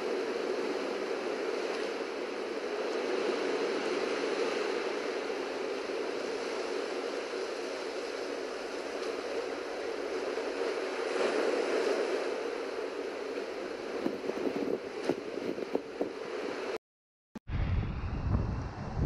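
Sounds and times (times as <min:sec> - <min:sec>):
ocean surf against rocks: 0:00.0 - 0:16.8.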